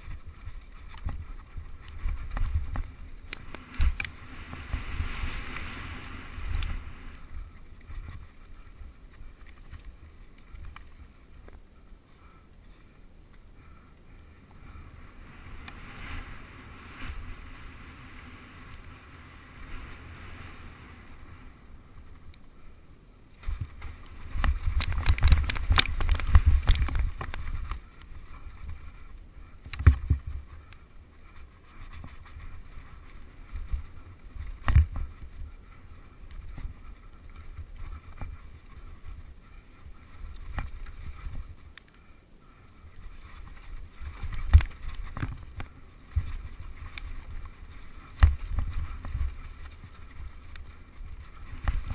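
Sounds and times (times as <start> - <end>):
bike rattling over rough trail: 0.0 - 51.9
wind buffeting microphone: 0.0 - 51.9.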